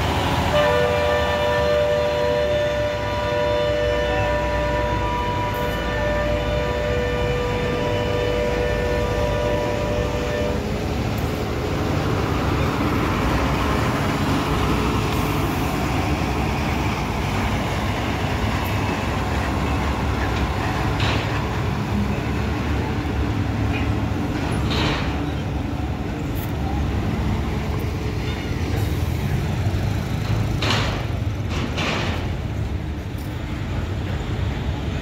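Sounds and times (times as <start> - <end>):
traffic engines rumbling: 0.0 - 35.0.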